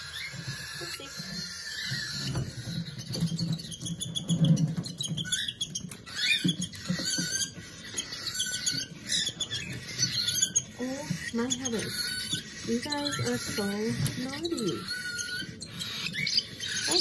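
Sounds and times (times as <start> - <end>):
bird chicks begging chirps: 0.0 - 17.0.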